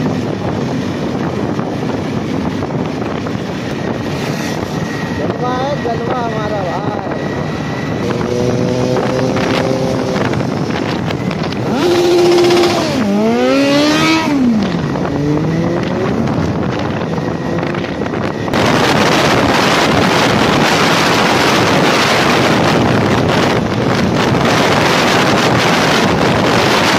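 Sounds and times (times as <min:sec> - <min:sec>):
motorcycle engine revving: 0:00.0 - 0:26.9
wind noise on microphone: 0:00.0 - 0:26.9.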